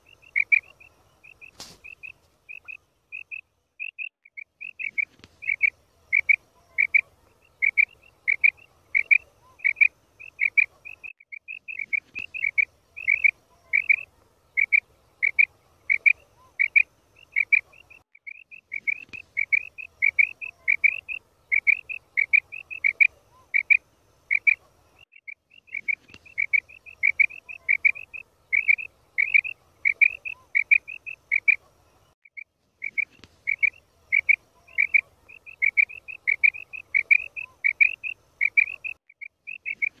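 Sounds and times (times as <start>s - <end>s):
quail calling: 0.0s - 31.7s, 32.3s - 40.0s.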